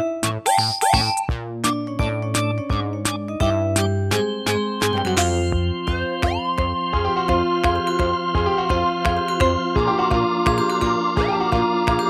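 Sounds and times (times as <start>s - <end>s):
synthesizer and keyboard music: 0.0s - 12.0s.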